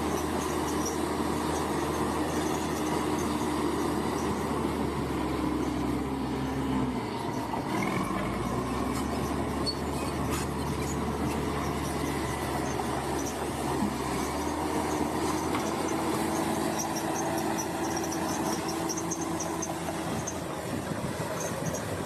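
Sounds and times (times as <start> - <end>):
bulldozer diesel engine running: 0.0 - 22.0
steel tracks working: 0.0 - 22.0.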